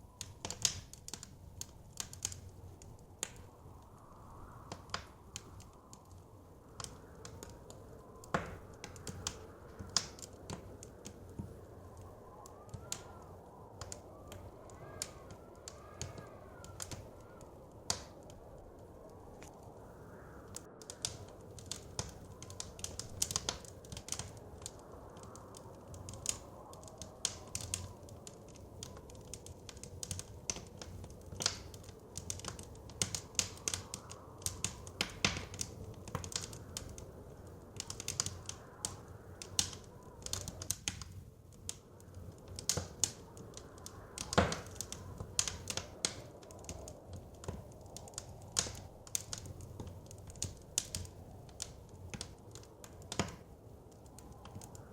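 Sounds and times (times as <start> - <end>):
blizzard wind rushing: 0.0 - 54.9
wood fire crackling: 0.0 - 54.9.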